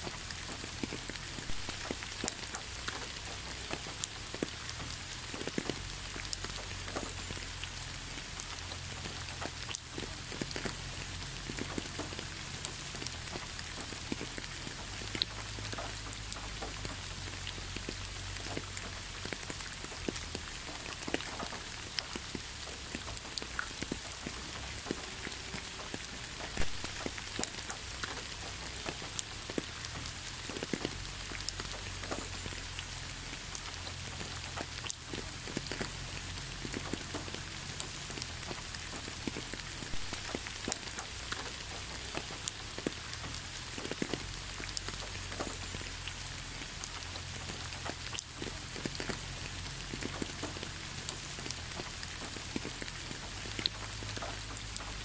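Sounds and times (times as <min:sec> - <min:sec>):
water splashes and drips: 0:00.0 - 0:55.0.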